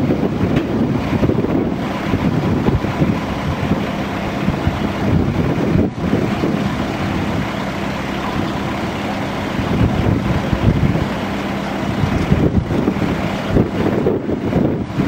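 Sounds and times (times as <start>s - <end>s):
forklift engine humming: 0.0s - 15.0s.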